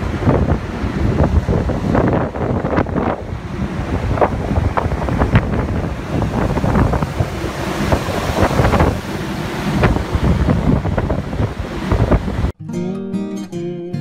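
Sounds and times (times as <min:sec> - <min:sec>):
rush of the sea: 0:00.0 - 0:12.6
wind buffeting microphone: 0:00.0 - 0:12.6.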